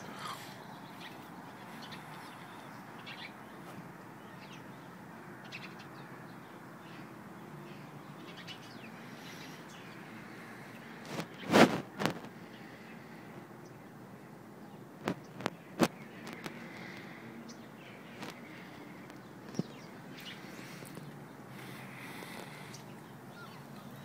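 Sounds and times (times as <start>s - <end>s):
birds chirping: 0.0s - 24.0s
low background noise: 0.0s - 24.0s.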